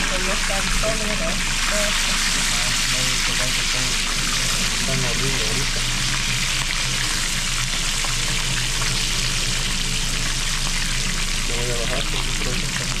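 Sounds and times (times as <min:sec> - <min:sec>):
fish frying in hot oil: 0:00.0 - 0:13.0
low steady hum: 0:00.0 - 0:13.0.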